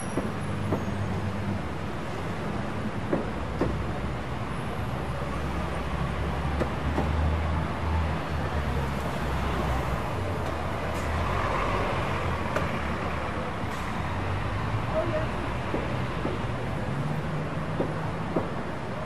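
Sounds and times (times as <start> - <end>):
cars and buses passing: 0.0 - 19.0.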